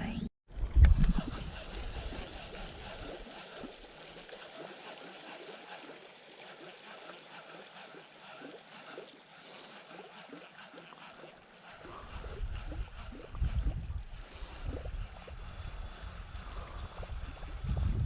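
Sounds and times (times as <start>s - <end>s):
water lapping against a kayak: 0.6s - 18.0s.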